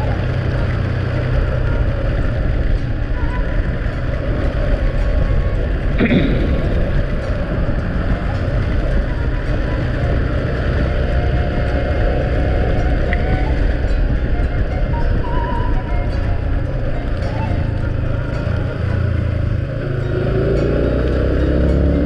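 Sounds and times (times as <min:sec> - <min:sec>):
moving vehicle road noise: 0:00.0 - 0:22.0.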